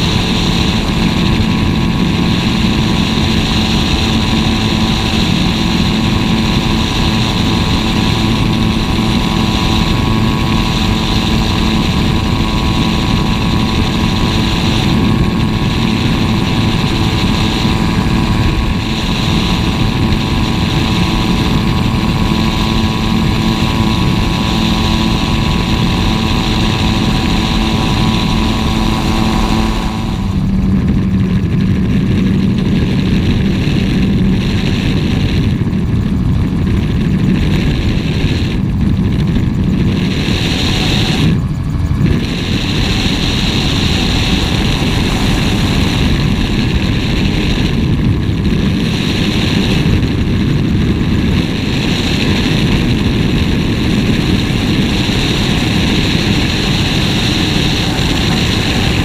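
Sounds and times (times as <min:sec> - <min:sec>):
aircraft engine and propeller: 0:00.0 - 0:59.0
wind rushing on camera: 0:00.0 - 0:59.0.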